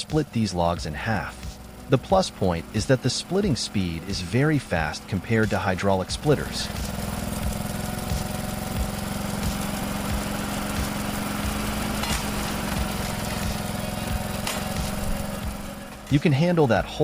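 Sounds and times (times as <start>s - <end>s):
log splitter engine running: 0.0s - 17.0s.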